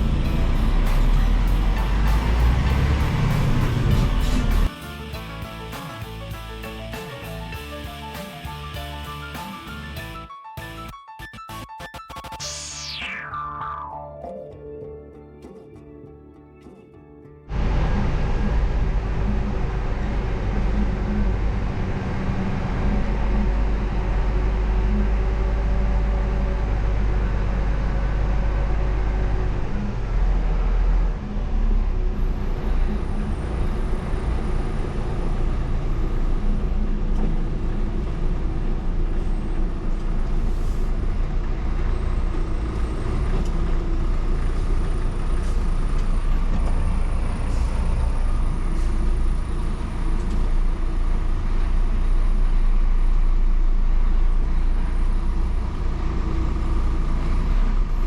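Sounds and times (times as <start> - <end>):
truck diesel engine droning: 0.0 - 10.8, 17.5 - 58.0.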